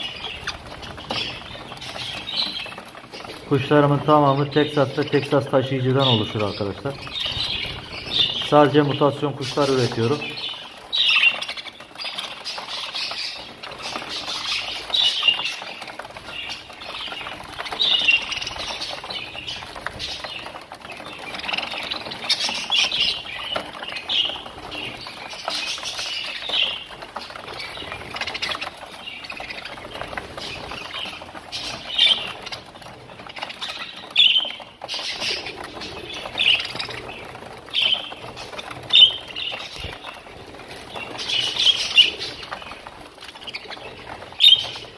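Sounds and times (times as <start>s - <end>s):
budgerigars chirping and chattering: 0.0s - 44.9s
wings flapping: 0.0s - 44.9s.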